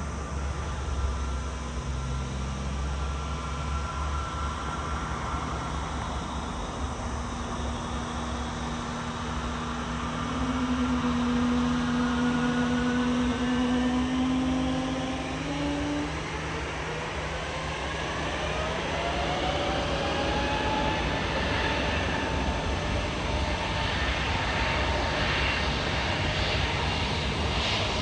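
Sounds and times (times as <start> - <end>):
distant jet engines spooling up: 0.0 - 28.0.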